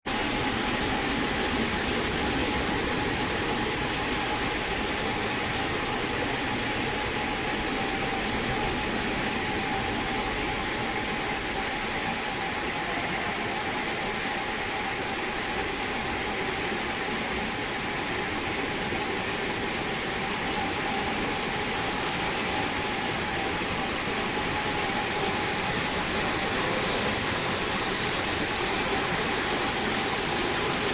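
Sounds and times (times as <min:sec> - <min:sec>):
floor cleaning machine whine: 0:00.1 - 0:30.9.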